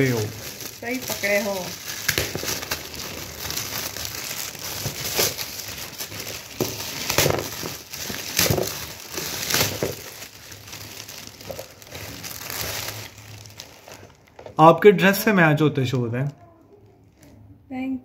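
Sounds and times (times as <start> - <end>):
foil gift wrap crinkling: 0.0 - 14.7.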